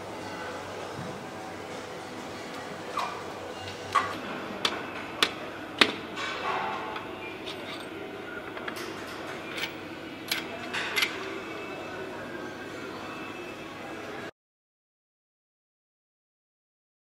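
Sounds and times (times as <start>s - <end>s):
factory hum: 0.0s - 14.3s.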